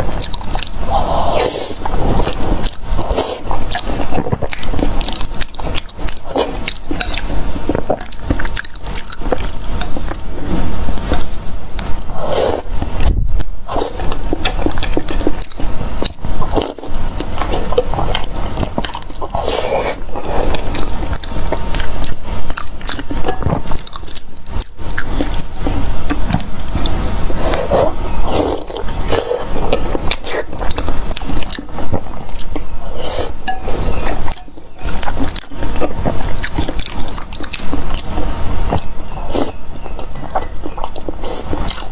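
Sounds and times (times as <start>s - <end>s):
biting and chewing: 0.0s - 41.9s.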